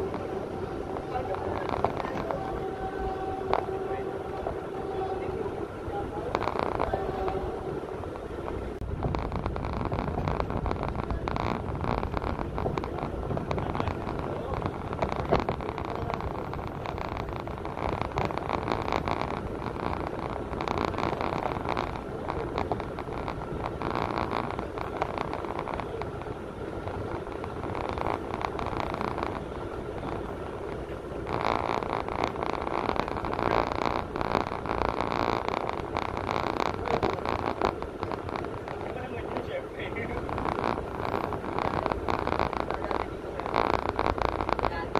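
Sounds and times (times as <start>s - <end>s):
indistinct chatter: 0.0s - 8.8s, 10.2s - 44.9s
vehicle interior rumble: 0.0s - 44.9s.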